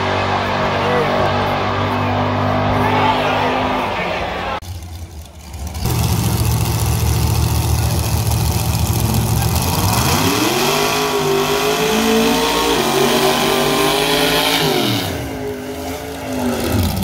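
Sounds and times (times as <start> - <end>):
car engine revving: 0.0 - 17.0
tyres spinning in burnout: 0.0 - 17.0.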